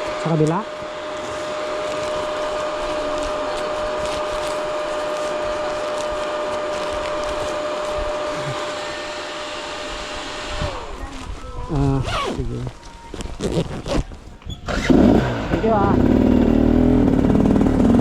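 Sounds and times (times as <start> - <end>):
dirt bike engine running: 0.0 - 11.1, 14.6 - 18.0.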